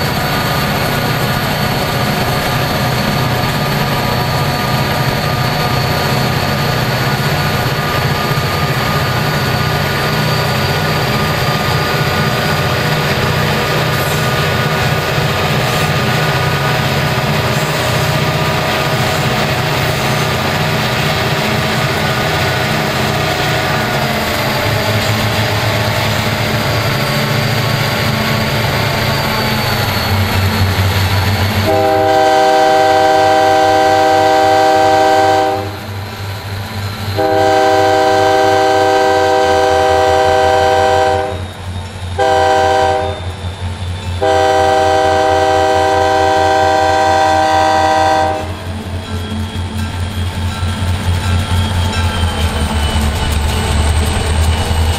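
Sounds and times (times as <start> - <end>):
diesel locomotive engine drone: 0.0 - 54.9.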